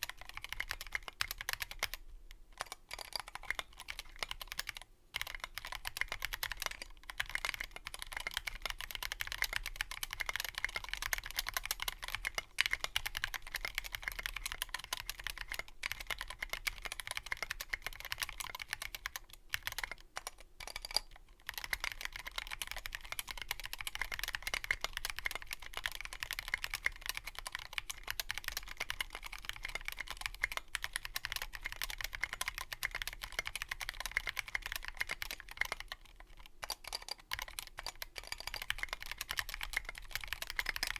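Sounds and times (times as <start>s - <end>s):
typing on mechanical keyboard: 0.0s - 40.9s.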